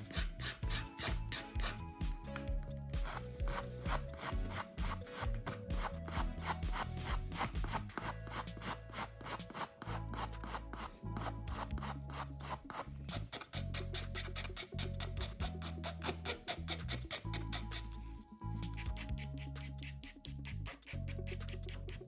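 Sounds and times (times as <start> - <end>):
file rasping on plastic: 0.0 - 2.4, 3.0 - 22.0
background music: 0.0 - 22.0.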